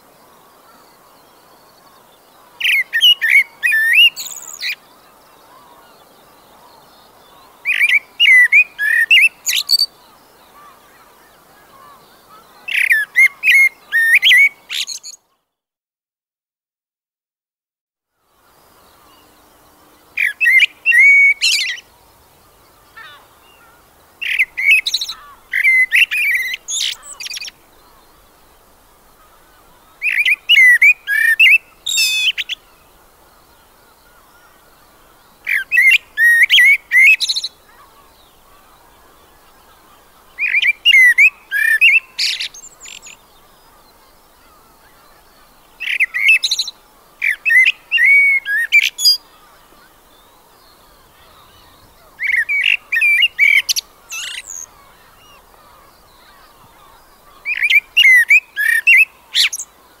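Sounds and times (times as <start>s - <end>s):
faint steady hiss: 0.0s - 15.6s, 18.1s - 60.0s
songbird singing: 0.0s - 15.7s, 18.1s - 60.0s.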